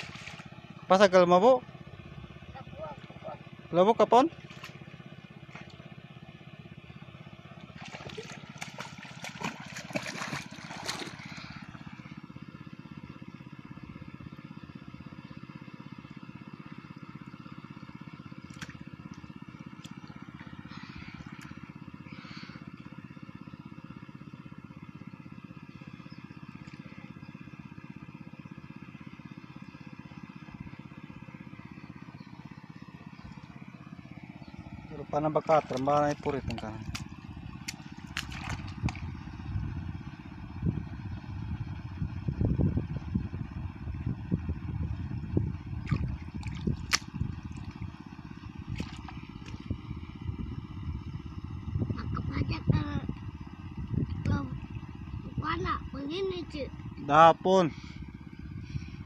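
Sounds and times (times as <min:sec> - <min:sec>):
small engine droning: 0:00.0 - 0:59.0.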